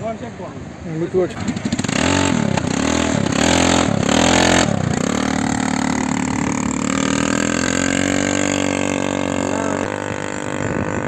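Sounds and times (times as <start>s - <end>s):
quad bike engine revving: 1.2s - 11.0s.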